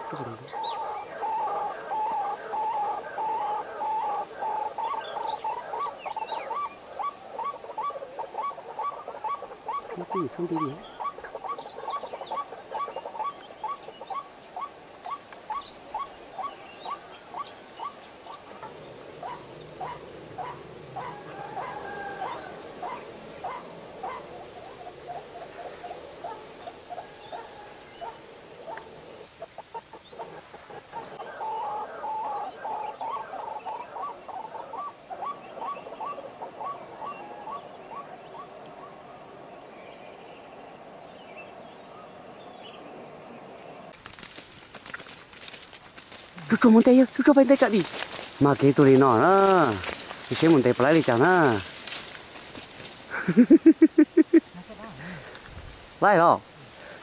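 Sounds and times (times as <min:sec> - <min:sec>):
waterhen clucking calls: 0:00.0 - 0:38.8, 0:46.3 - 0:55.4.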